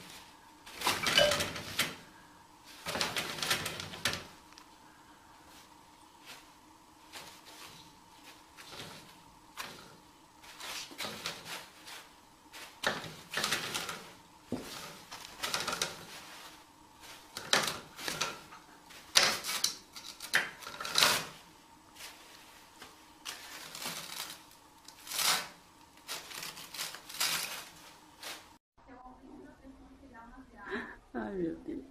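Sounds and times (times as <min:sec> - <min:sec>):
toilet paper rustling: 0:00.0 - 0:28.6.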